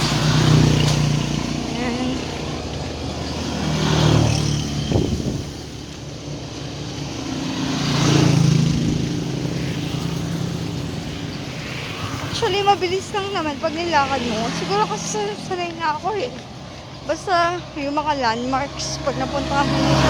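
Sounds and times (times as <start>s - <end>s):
motor vehicles passing: 0.0s - 20.0s
traffic rumble: 0.0s - 20.0s.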